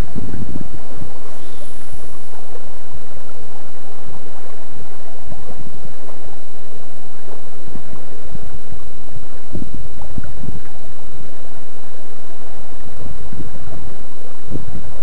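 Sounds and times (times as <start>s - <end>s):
river water rushing: 0.0s - 13.8s
wind buffeting microphone: 0.0s - 15.0s.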